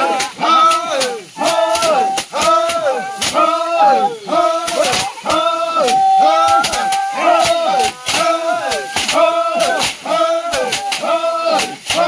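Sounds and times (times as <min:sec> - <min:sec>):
men chanting rhythmically: 0:00.0 - 0:12.0.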